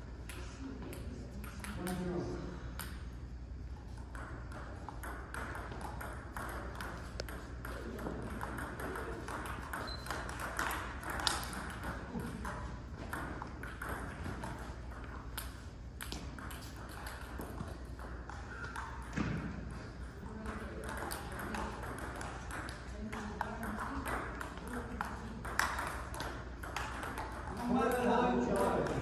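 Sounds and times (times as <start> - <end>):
steady low hum: 0.0 - 29.0
ping pong ball clicking off paddles: 0.2 - 2.1, 3.8 - 29.0
ball bouncing on table: 3.9 - 29.0.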